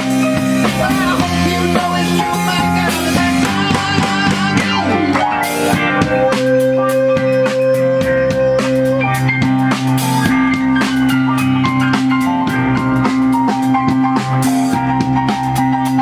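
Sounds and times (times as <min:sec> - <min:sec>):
drum kit steady beat: 0:00.0 - 0:16.0
electric guitar: 0:00.0 - 0:16.0
keyboard: 0:00.0 - 0:16.0
live rock band playing: 0:00.0 - 0:16.0.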